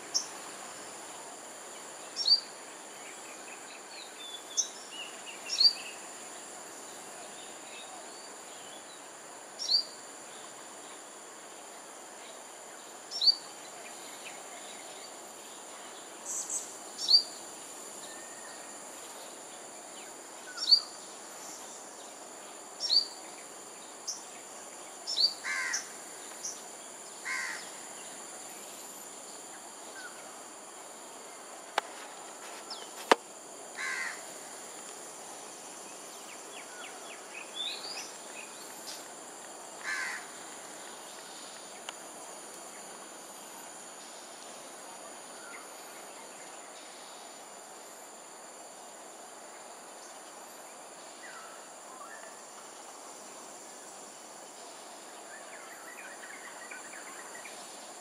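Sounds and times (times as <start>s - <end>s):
insect drone: 0.0s - 58.0s.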